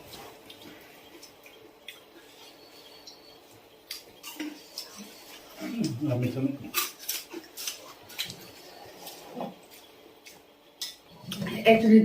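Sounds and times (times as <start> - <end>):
soft crunches of eating: 0.0 - 11.5.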